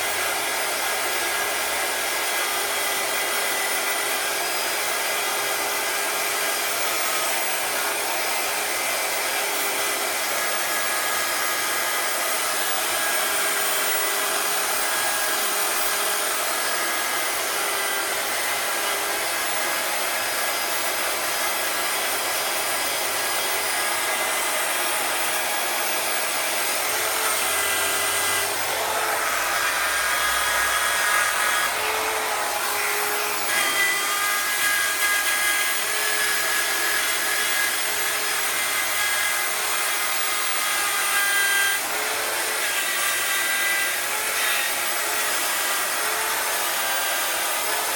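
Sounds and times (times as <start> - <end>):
electric power tool whining: 0.0 - 47.9.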